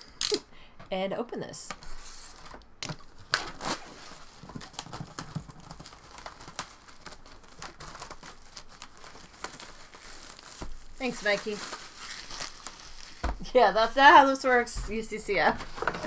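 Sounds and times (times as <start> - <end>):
plastic shrink wrap crinkling: 2.4 - 16.0.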